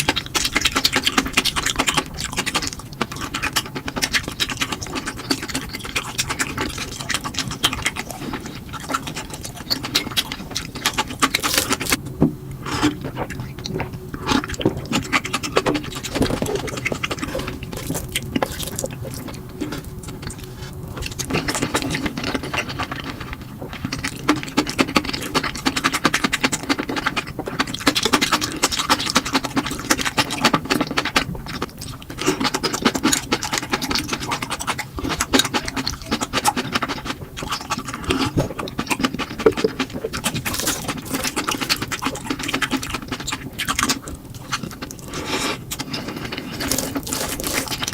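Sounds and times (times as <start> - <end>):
person chewing noodles: 0.0 - 47.9.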